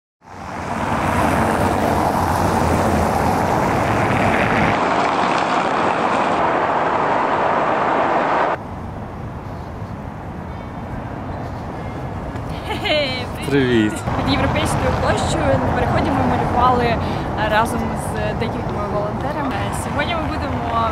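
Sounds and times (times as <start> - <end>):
city street traffic: 0.2 - 20.9.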